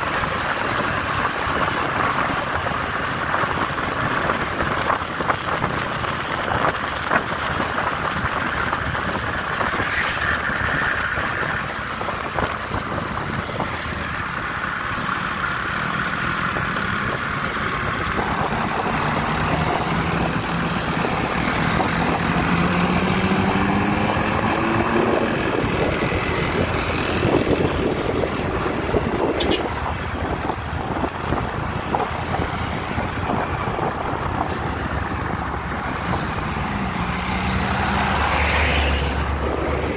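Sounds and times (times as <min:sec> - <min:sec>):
road vehicle noise: 0:00.0 - 0:39.9
vehicle engine accelerating: 0:00.0 - 0:39.9
wind buffeting microphone: 0:00.0 - 0:39.9.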